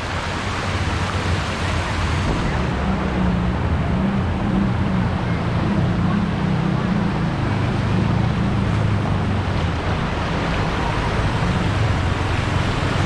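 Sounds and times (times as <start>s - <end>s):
floodwater rushing: 0.0s - 13.0s
vehicle engine low hum: 0.0s - 13.0s.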